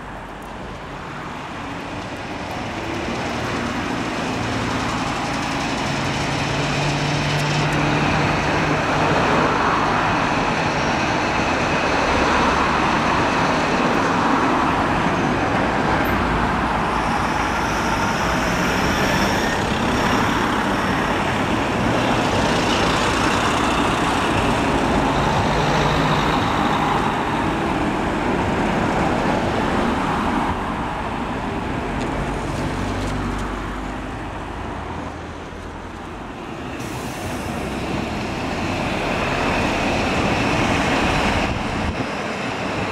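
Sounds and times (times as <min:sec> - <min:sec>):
road traffic noise: 0:00.0 - 0:42.9.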